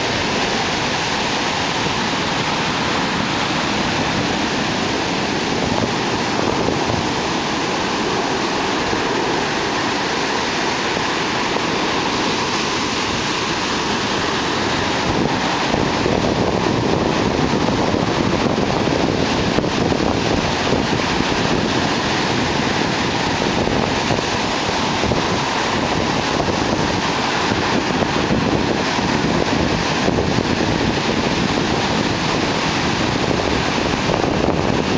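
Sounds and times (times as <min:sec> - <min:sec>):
ocean waves breaking: 0:00.0 - 0:34.9
whitewater rushing up beach: 0:00.0 - 0:34.9.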